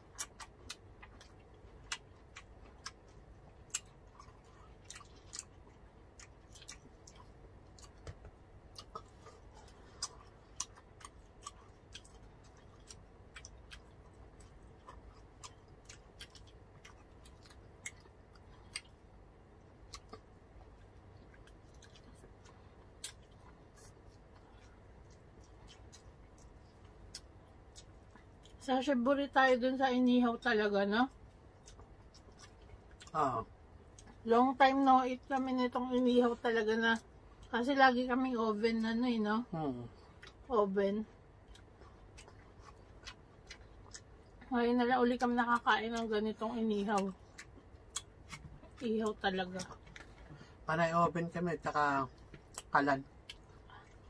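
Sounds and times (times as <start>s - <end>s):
wet chewing sounds: 0.0s - 29.6s, 30.9s - 37.6s, 39.9s - 40.5s, 41.1s - 50.6s, 51.8s - 54.0s.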